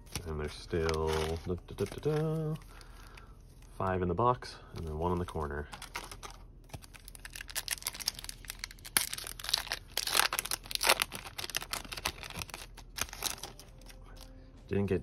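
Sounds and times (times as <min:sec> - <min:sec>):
foil wrapper crinkling and tearing: 0:00.0 - 0:03.3, 0:04.8 - 0:14.3.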